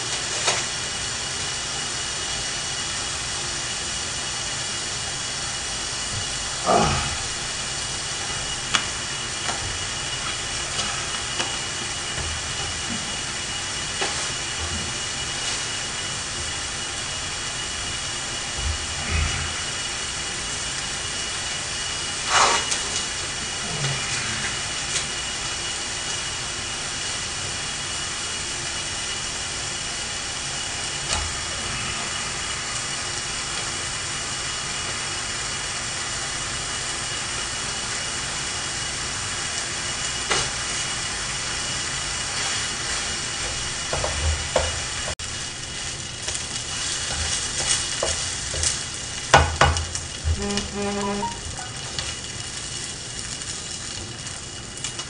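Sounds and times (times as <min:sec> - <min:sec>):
rice sizzling in a frying pan: 0:00.0 - 0:55.0.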